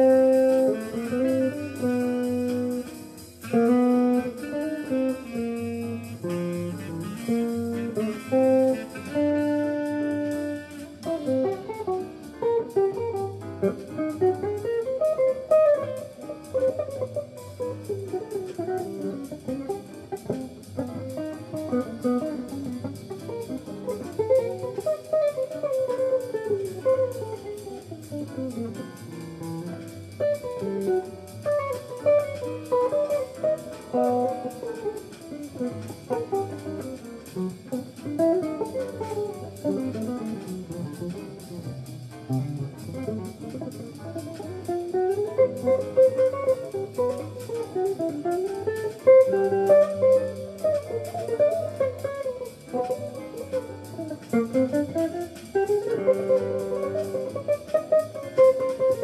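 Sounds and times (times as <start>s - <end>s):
cymbal ticks: 0.0s - 59.0s
electric guitar jazz line: 0.0s - 59.0s.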